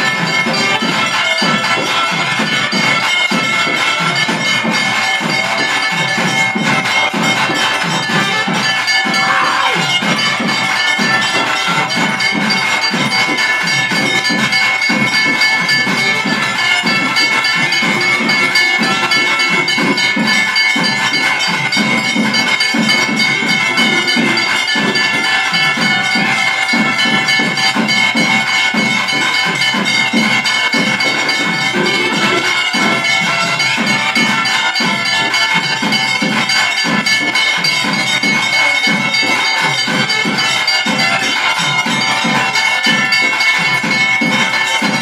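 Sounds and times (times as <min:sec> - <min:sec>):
drums beating fast rhythm: 0:00.0 - 0:45.0
metal bells ringing: 0:00.0 - 0:45.0.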